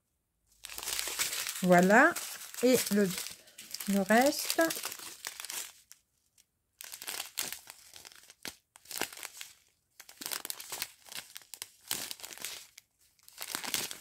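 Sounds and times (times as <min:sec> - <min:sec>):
plastic sachets crinkling: 0:00.6 - 0:14.0.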